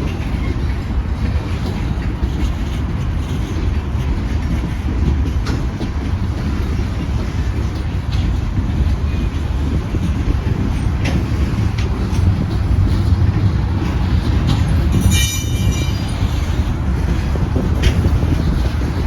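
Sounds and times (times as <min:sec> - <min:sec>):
train rumbling past: 0:00.0 - 0:19.0
train sharp clicks: 0:00.0 - 0:19.0.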